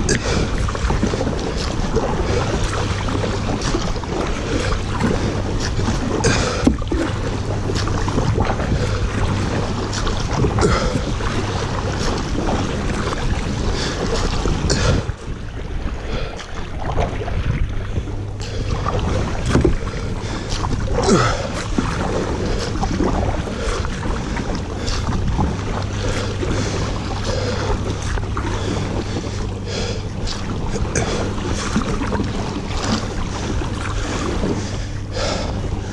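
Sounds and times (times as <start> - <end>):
paddle splashing in water: 0.0 - 35.9
water washing along hull: 0.0 - 35.9
wind on microphone: 0.0 - 35.9.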